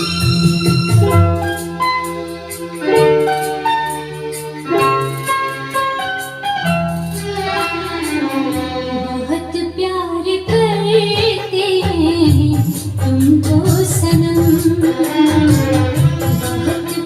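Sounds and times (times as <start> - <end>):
steady bass notes: 0.0 - 17.0
sung melody: 0.0 - 17.0.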